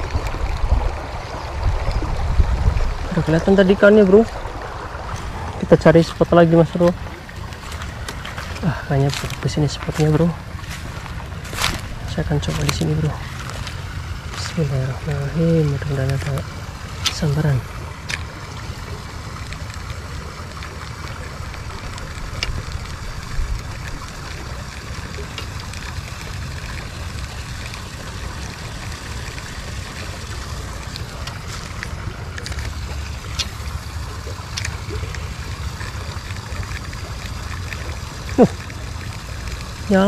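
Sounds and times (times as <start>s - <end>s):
wind rumble on microphone: 0.0s - 38.5s
river water flowing: 0.0s - 40.0s.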